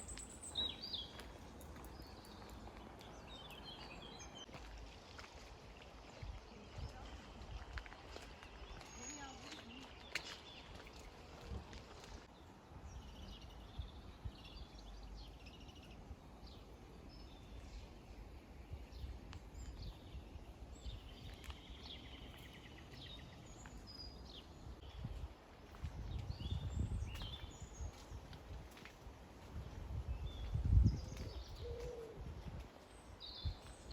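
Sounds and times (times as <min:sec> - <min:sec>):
small birds chirping and trilling: 0:00.0 - 0:04.5, 0:08.1 - 0:28.4, 0:29.6 - 0:33.9.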